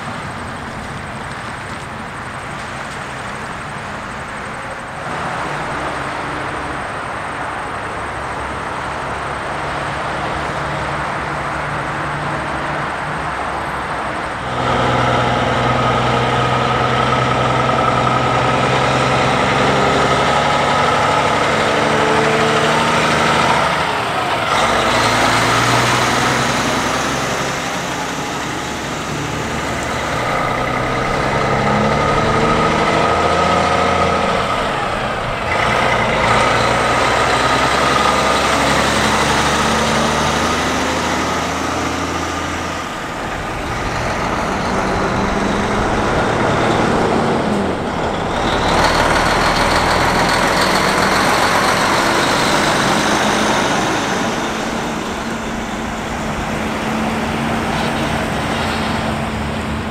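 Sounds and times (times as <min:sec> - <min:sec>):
road traffic: 0:00.0 - 0:59.9
truck driving off: 0:00.0 - 0:59.9
truck engines idling: 0:00.0 - 0:59.9.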